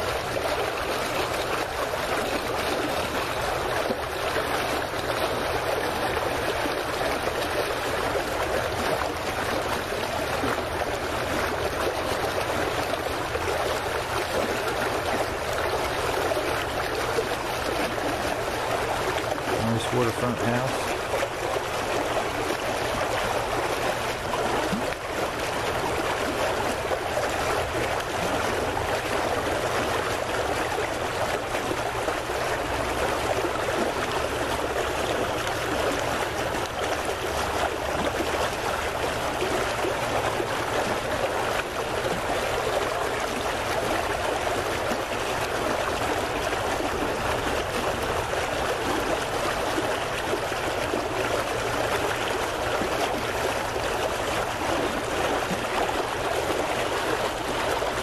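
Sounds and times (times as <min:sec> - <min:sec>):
water lapping against a dock: 0:00.0 - 0:58.0.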